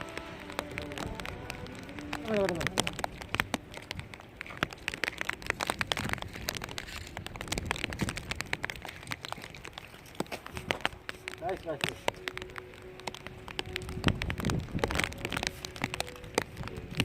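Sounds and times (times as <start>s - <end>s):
rain pattering on rain gear: 0.0s - 17.0s
crinkly rustling: 0.4s - 17.0s.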